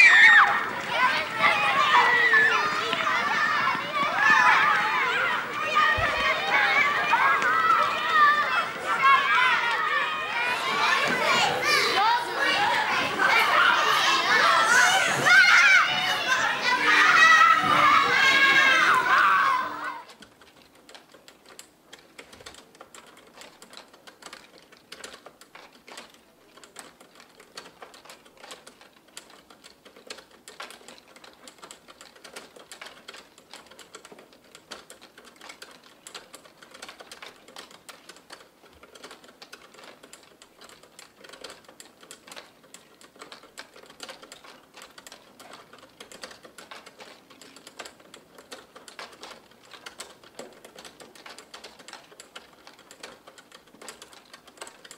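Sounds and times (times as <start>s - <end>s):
bicycle chain clicking and rattling: 0.0s - 54.9s.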